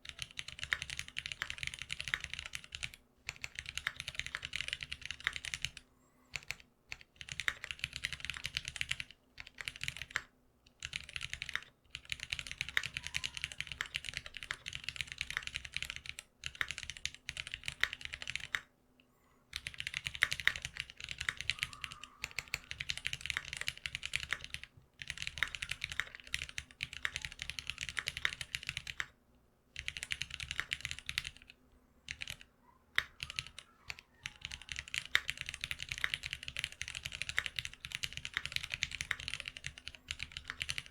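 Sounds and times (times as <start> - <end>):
mechanical keyboard typing: 0.0 - 18.7, 19.5 - 29.2, 29.8 - 40.9.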